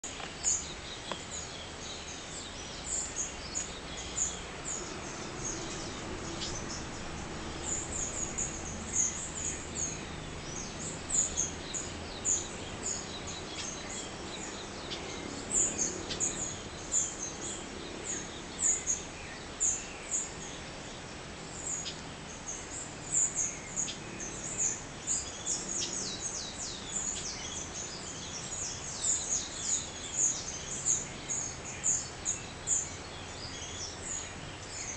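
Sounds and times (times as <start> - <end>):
birds chirping: 0.0 - 34.9
steady background noise: 0.0 - 34.9.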